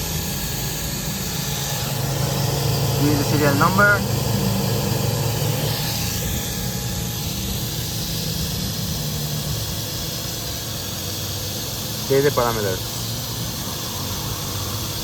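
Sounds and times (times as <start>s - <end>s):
pump and sprinklers whirring: 0.0s - 15.0s.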